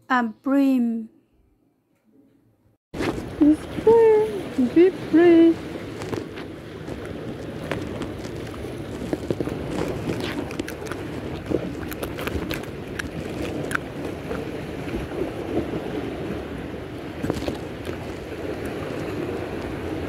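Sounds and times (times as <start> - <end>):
waves: 3.0 - 20.0
wind on microphone: 3.0 - 20.0.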